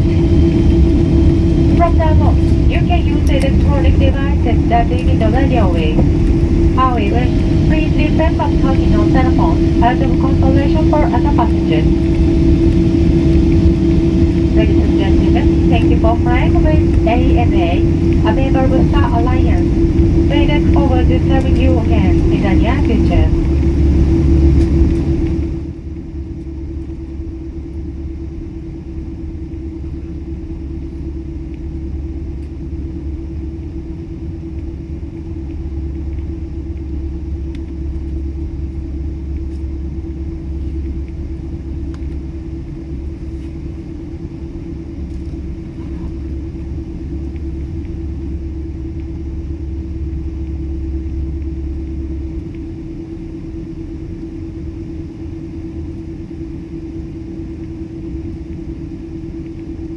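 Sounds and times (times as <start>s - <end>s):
constant cabin hum: 0.0s - 59.9s
low rumble of engines and wheels: 0.0s - 59.9s.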